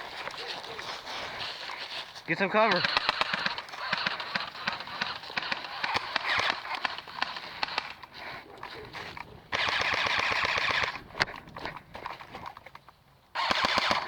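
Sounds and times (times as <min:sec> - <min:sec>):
airsoft guns firing: 0:00.7 - 0:12.5, 0:13.3 - 0:14.0.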